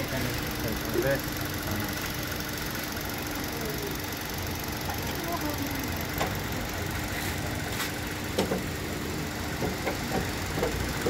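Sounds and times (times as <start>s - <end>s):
air conditioning compressor hum: 0.0s - 11.0s
car engine idling: 0.0s - 11.0s.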